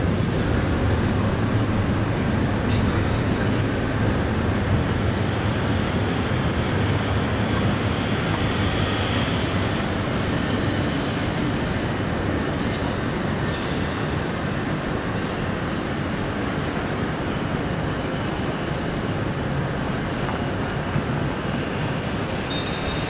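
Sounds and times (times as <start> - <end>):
train cooling fans whirring: 0.0 - 23.0.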